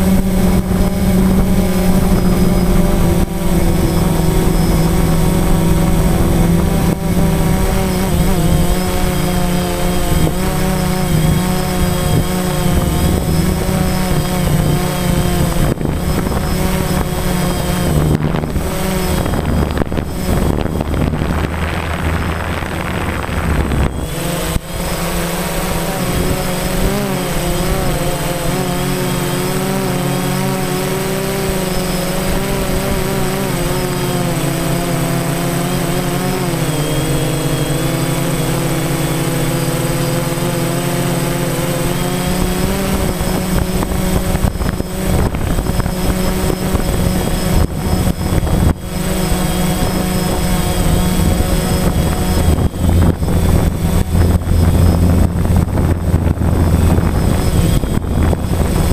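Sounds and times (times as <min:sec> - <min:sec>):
drone propellers buzzing: 0:00.0 - 0:58.9
wind rumble on microphone: 0:00.0 - 0:58.9.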